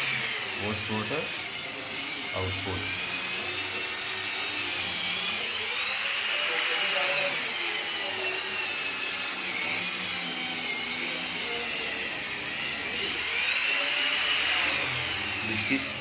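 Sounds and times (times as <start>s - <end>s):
machine whirring with high whine: 0.0s - 16.0s.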